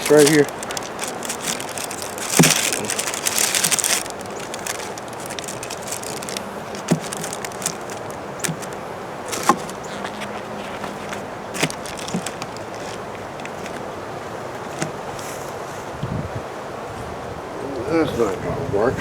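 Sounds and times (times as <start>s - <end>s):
rustling and crackling: 0.0s - 17.1s
outdoor background: 0.0s - 19.0s.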